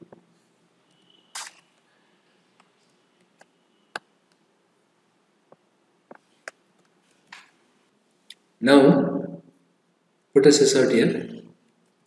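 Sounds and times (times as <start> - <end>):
low room hiss: 0.0 - 12.0.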